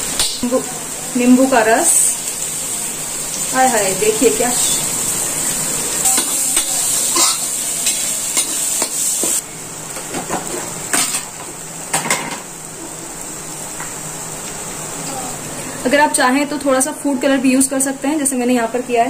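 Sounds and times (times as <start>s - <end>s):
onions frying in oil sizzling: 0.0s - 19.0s.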